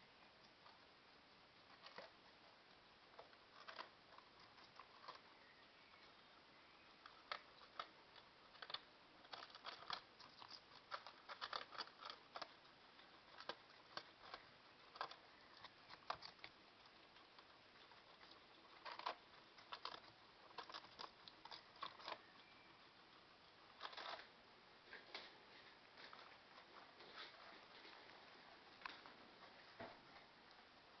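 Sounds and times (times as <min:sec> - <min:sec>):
guinea pigs chewing vegetables: 0:00.0 - 0:31.0.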